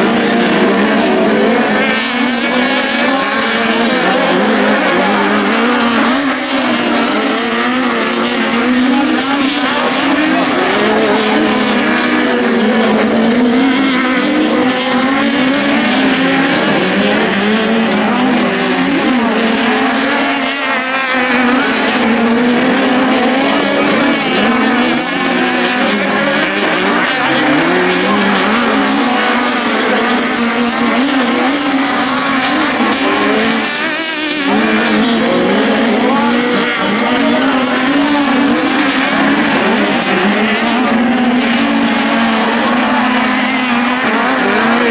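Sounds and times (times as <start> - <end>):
racing buggy engines revving: 0.0 - 44.9.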